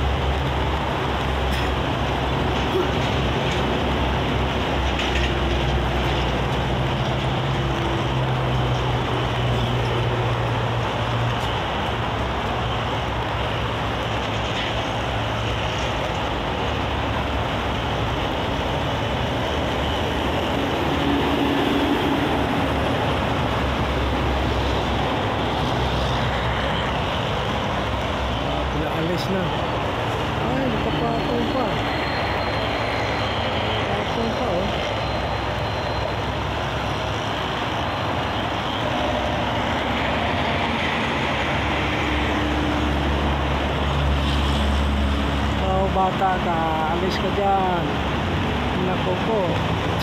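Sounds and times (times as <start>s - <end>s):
heavy truck engine drone: 0.0s - 50.0s
traffic passing at speed: 0.0s - 50.0s.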